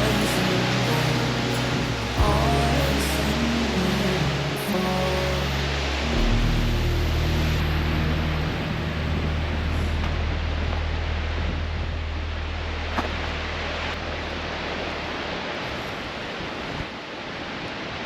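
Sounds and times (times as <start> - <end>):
low steady hum: 0.0 - 17.1
steady rushing noise: 0.0 - 18.0.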